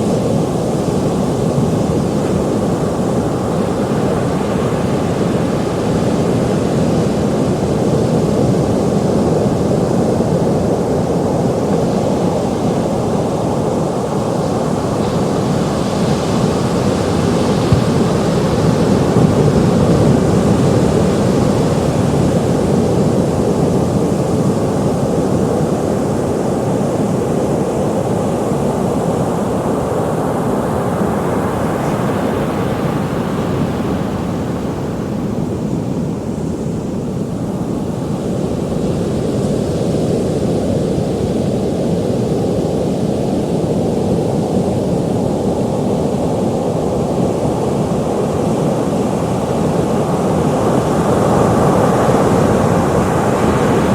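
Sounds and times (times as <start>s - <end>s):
waves washing onto shore: 0.0s - 53.9s.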